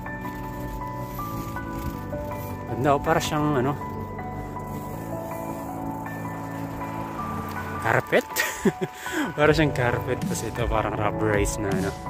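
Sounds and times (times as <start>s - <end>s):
background music held notes: 0.0s - 12.0s.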